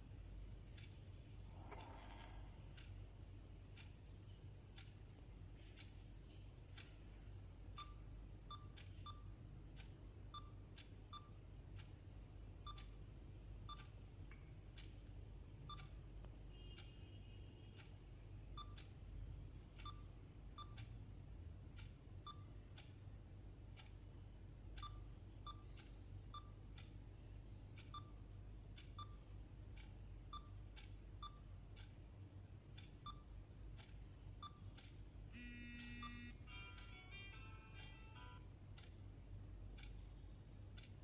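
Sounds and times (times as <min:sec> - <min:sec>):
faint ticking: 0:00.0 - 0:17.1, 0:17.7 - 0:41.0.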